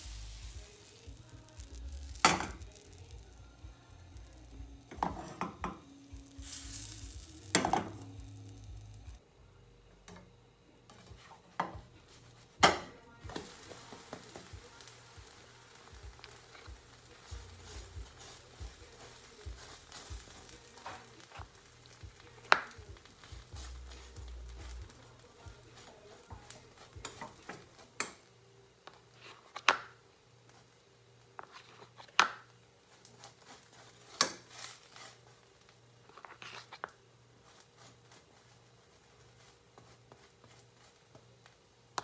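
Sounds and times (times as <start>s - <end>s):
batter sizzling in a frying pan: 0.0s - 9.2s, 11.0s - 42.0s.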